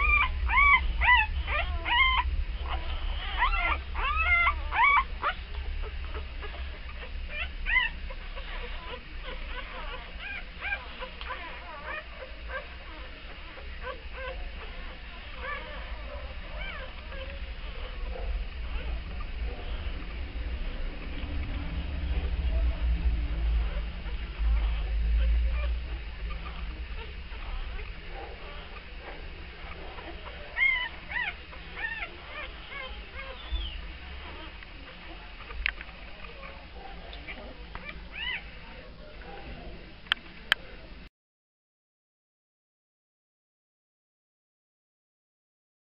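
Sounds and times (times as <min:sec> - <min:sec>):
puppies squeaking and whimpering: 0:00.0 - 0:39.8.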